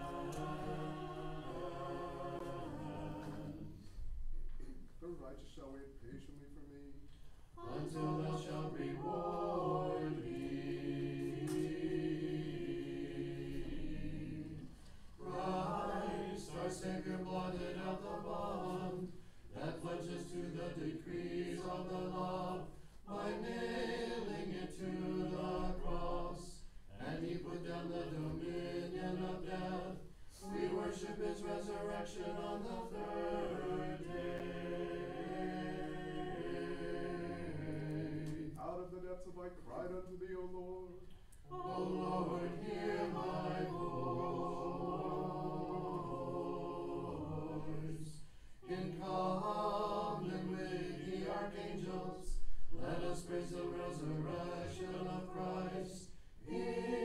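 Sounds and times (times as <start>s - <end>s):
a cappella choir chanting: 0.0s - 4.7s, 7.4s - 57.0s.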